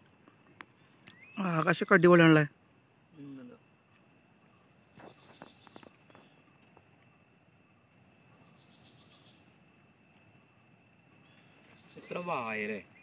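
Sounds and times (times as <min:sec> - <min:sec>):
insect trilling: 0:00.0 - 0:13.0
thin steady high tone: 0:00.0 - 0:13.0.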